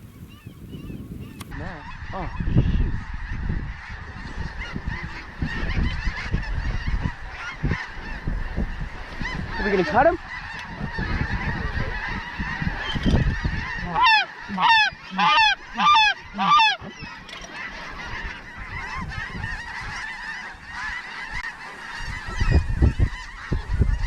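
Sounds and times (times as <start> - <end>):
flock of geese honking: 0.0 - 24.0
loud close goose honks: 1.3 - 24.0.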